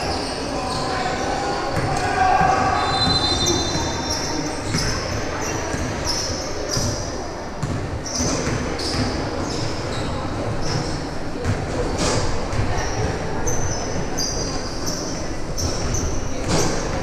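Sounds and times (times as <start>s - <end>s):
sneakers squeaking: 0.0s - 17.0s.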